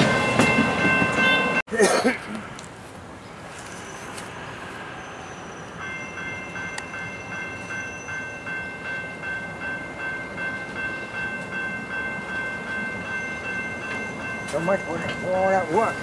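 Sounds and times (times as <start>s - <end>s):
railroad bell ringing: 0.0s - 1.6s, 4.8s - 16.0s
freight train rumbling: 0.0s - 16.0s.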